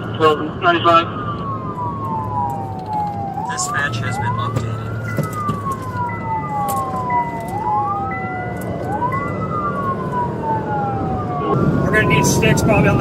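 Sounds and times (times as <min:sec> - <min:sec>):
police sirens wailing: 0:00.0 - 0:13.0
road and engine noise: 0:00.0 - 0:13.0.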